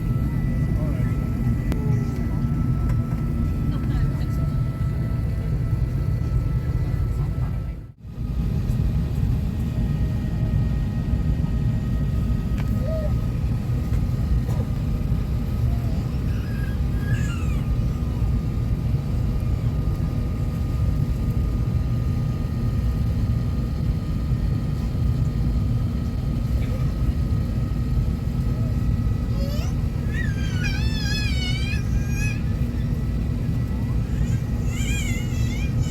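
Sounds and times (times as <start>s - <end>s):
aircraft cabin rumble: 0.0s - 35.9s.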